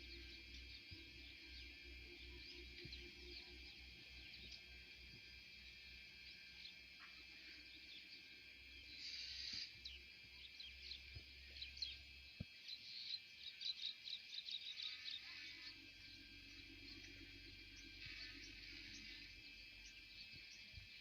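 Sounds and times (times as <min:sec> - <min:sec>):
insects humming: 0:00.0 - 0:21.0
small birds chirping: 0:00.0 - 0:21.0.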